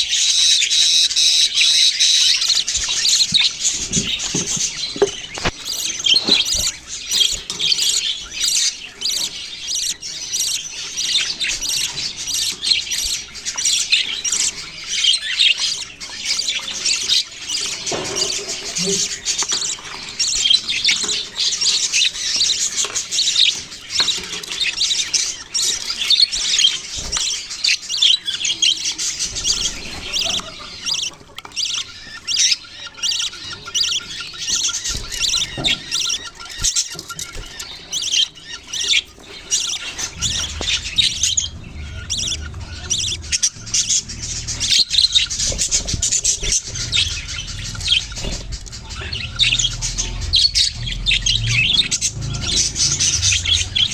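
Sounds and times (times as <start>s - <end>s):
budgerigars chirping and chattering: 0.0s - 53.9s.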